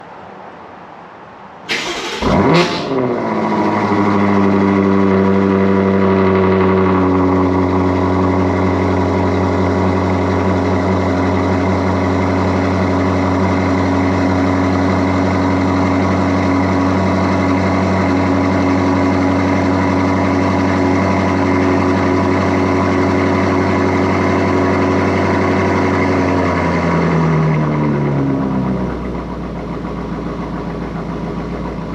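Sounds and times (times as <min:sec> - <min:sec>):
car engine cold start and idle: 0:01.7 - 0:31.9.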